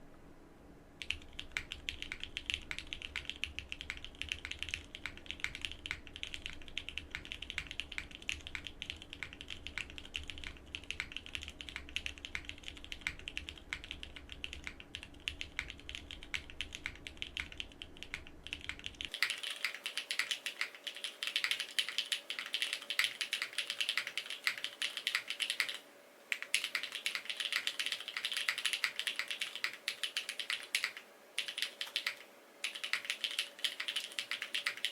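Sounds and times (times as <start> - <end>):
fast typing on mechanical keyboard: 1.0 - 34.9.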